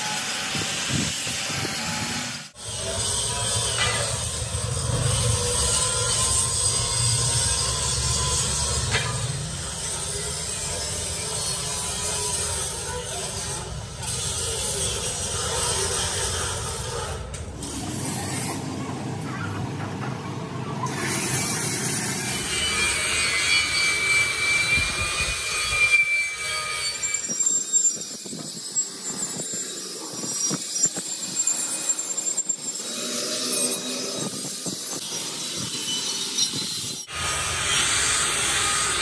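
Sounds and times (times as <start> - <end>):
angle grinder whining and scraping: 0.0 - 15.2, 15.9 - 39.0.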